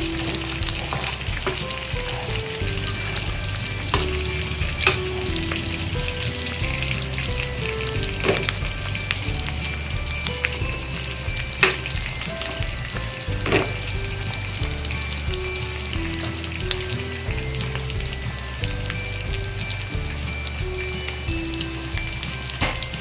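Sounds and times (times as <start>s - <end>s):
meat frying in bubbling oil: 0.0s - 23.0s
sharp oil crackles: 0.0s - 23.0s.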